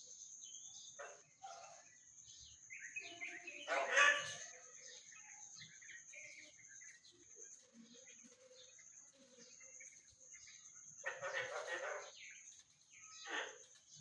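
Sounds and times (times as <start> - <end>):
soft bird chirps: 0.0 - 14.0.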